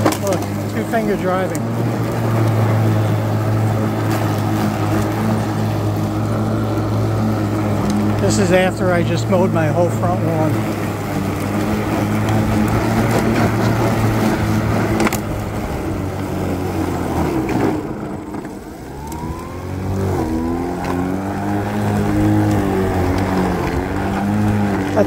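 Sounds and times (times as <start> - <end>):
electric lawn mower cutting grass: 0.0 - 25.0.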